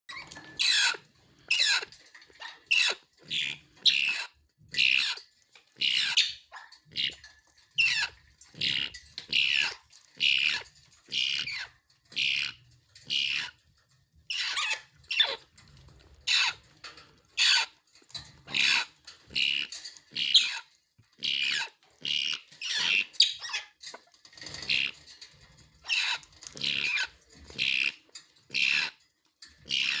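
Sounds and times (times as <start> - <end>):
parrot chicks calling: 0.1 - 13.6, 14.3 - 15.4, 16.3 - 16.6, 17.4 - 17.8, 18.4 - 25.0, 25.8 - 29.0, 29.7 - 30.0.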